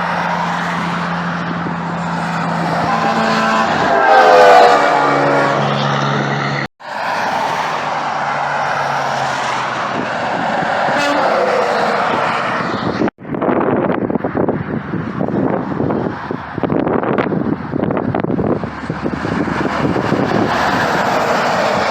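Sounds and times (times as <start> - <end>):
wind buffeting microphone: 0.0 - 6.4, 7.8 - 21.9
vehicle passing by: 0.0 - 13.1, 15.2 - 21.9
steady low traffic drone: 0.0 - 21.9.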